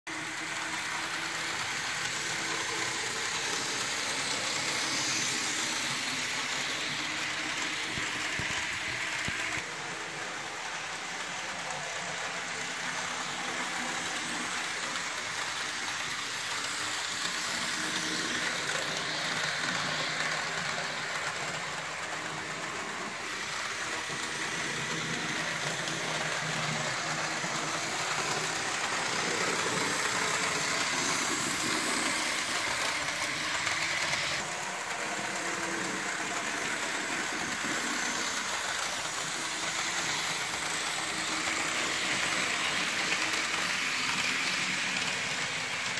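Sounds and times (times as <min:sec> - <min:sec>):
model train running on rails: 0:00.1 - 0:45.9.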